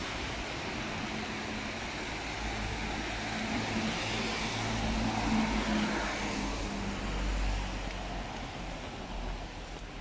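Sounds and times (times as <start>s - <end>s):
rain on street: 0.0s - 10.0s
road traffic hum: 0.0s - 10.0s.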